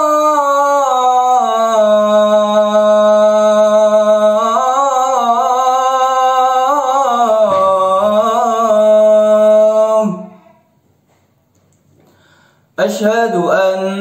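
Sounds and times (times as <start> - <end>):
man's voice calling to prayer: 0.0 - 10.6, 12.8 - 14.0.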